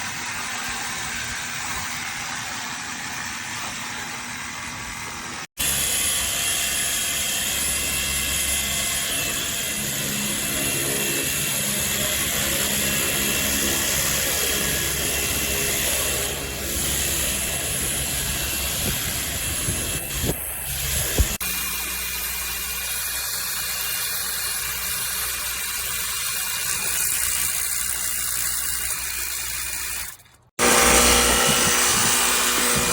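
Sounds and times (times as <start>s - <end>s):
pressure washer running: 0.0s - 32.9s.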